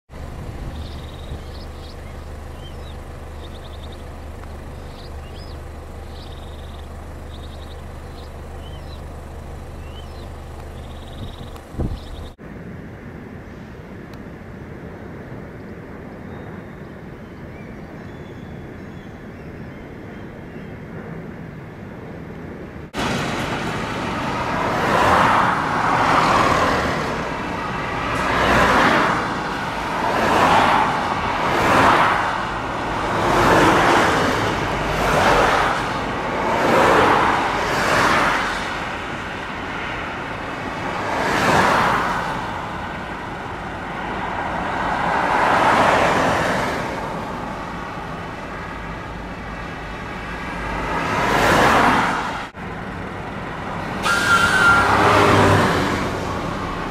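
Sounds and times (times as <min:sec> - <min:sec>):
cars and lorries passing: 0:00.1 - 0:56.9.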